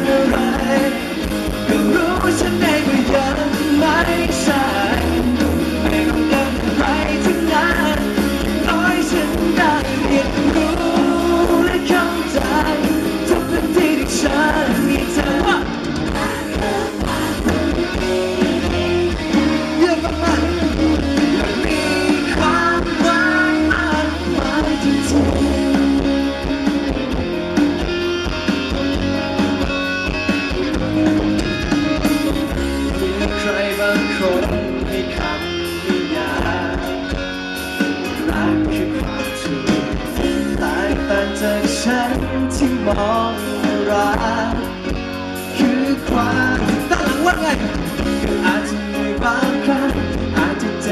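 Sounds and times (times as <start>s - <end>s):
man singing: 0.0s - 26.6s, 32.0s - 50.9s
bass guitar: 0.0s - 50.9s
drums: 0.0s - 50.9s
electric guitar: 0.0s - 50.9s.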